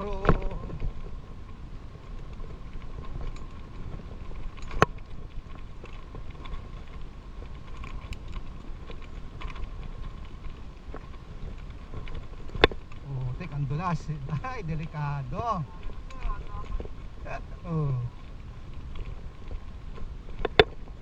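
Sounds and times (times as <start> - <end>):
bike rattling clicks: 0.0 - 21.0
low rumble of tyres on dirt: 0.0 - 21.0.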